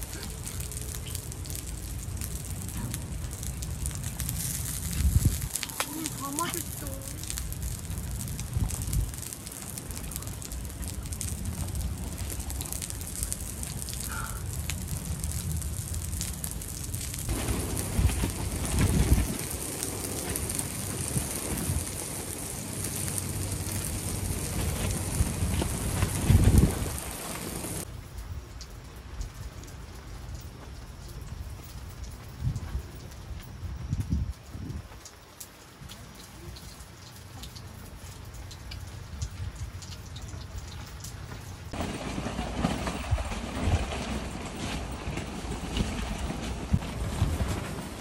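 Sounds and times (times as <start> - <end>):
steady rain falling: 0.0 - 48.0
wind rumbling on microphone: 0.0 - 48.0.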